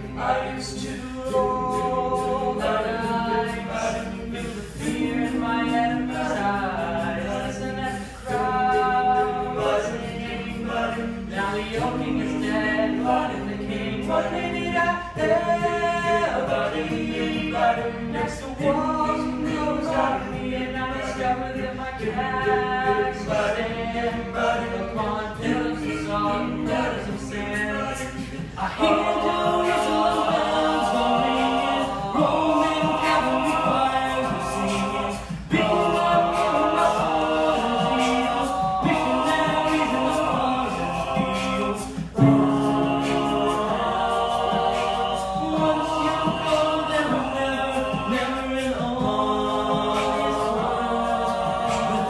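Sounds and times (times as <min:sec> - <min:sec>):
boys singing a cappella: 0:00.0 - 0:52.0.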